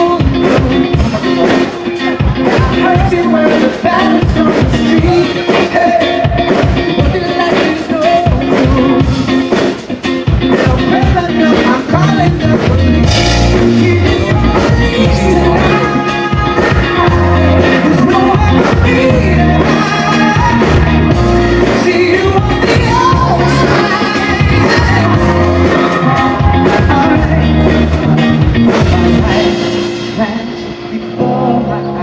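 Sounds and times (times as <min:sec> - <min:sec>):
person singing: 0:00.0 - 0:09.8, 0:10.4 - 0:32.0
drums: 0:00.0 - 0:32.0
rock band playing: 0:00.0 - 0:32.0.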